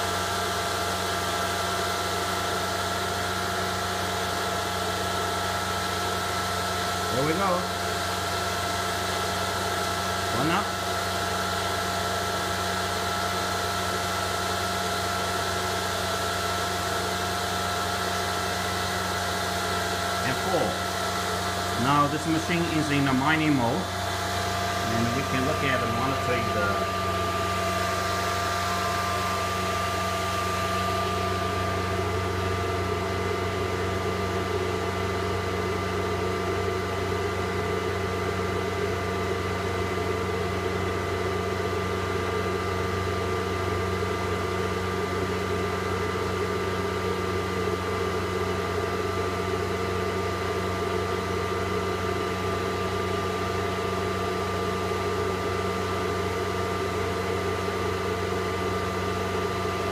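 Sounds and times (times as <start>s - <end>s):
high-speed cooling fans whining: 0.0s - 59.9s.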